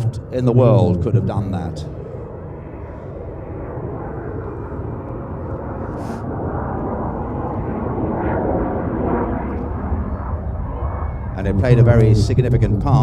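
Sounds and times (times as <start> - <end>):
jet bomber engines rumbling: 0.0 - 13.0.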